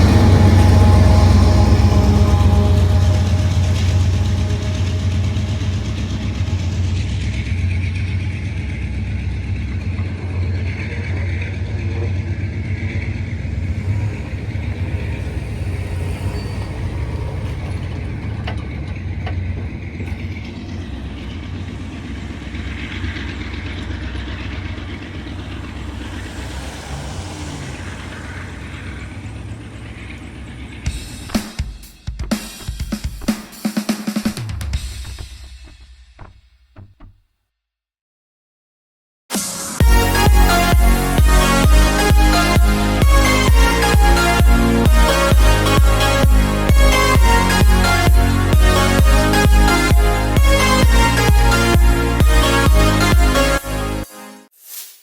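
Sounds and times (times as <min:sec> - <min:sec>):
freight train rumbling past: 0:00.0 - 0:31.7, 0:39.8 - 0:54.1.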